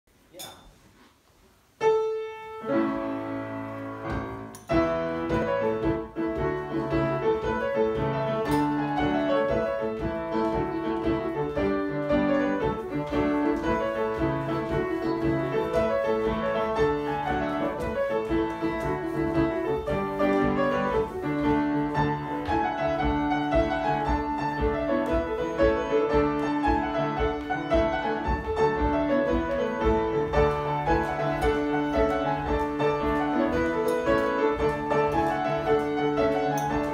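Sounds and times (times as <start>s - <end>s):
piano playing jig music: 1.8s - 36.9s.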